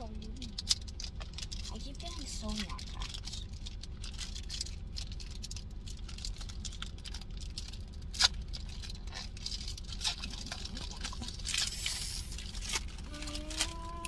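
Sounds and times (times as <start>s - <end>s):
foil wrappers crinkling: 0.0s - 14.0s
steady low hum: 0.0s - 14.0s.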